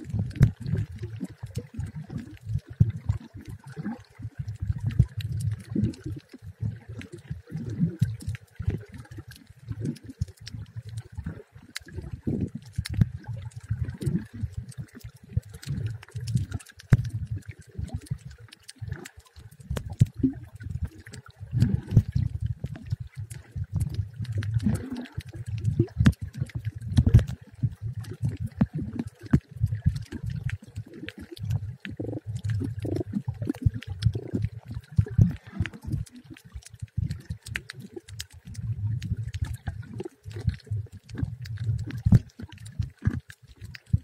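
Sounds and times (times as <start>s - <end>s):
sharp underwater clicks: 0.0s - 44.0s
underwater rumbling and sloshing: 0.0s - 44.0s.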